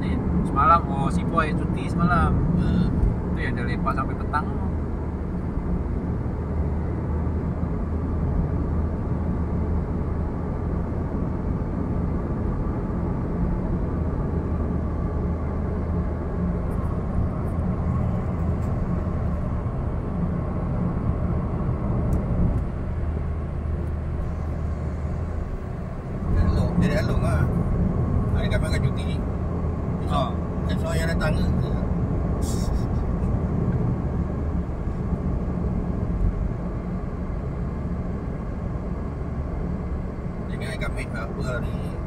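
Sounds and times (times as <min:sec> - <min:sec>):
car engine hum: 0:00.0 - 0:42.0
road and tyre noise: 0:00.0 - 0:42.0.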